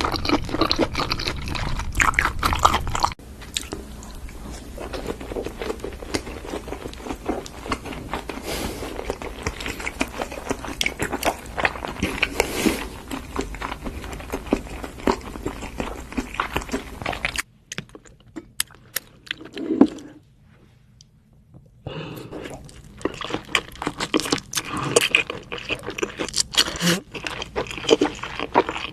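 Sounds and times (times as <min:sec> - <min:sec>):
person chewing wetly: 0:00.0 - 0:20.0, 0:22.3 - 0:28.9
background hum: 0:00.0 - 0:28.9.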